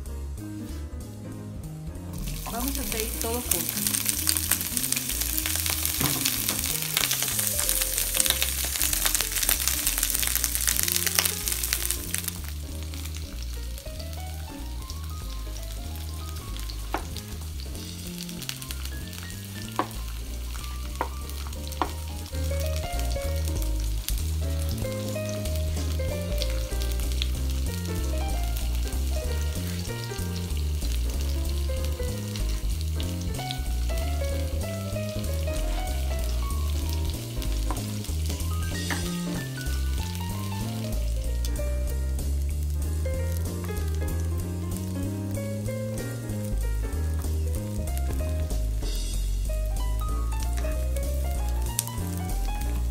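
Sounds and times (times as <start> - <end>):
vegetables sizzling in oil: 2.2 - 52.9.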